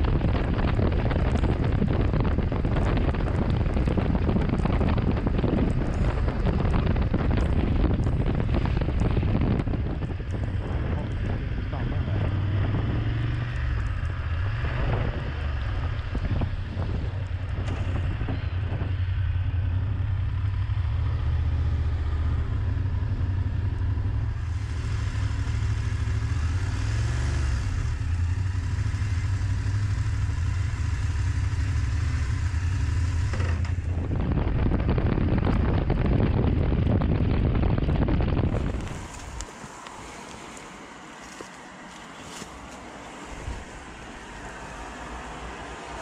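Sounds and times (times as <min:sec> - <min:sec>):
motorcycle engine running: 0:00.0 - 0:39.4
rush of wind: 0:00.0 - 0:46.0
wind buffeting microphone: 0:00.0 - 0:46.0.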